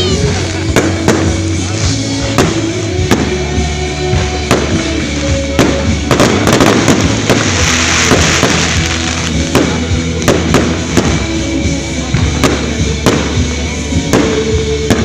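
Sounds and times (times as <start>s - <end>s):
fireworks crackling: 0.0s - 15.0s
music: 0.0s - 15.0s
fireworks bangs: 0.1s - 15.0s.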